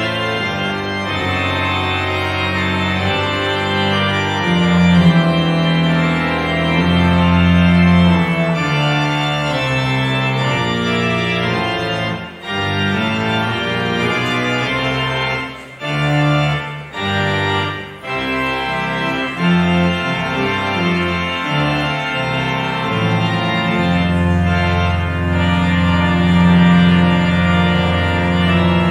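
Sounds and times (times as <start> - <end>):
organ playing sustained chords: 0.0 - 28.9.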